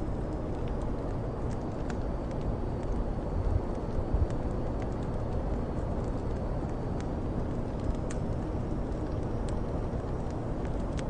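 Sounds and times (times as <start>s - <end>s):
steady deep white noise: 0.0s - 11.0s
wood fire crackling: 0.0s - 11.0s.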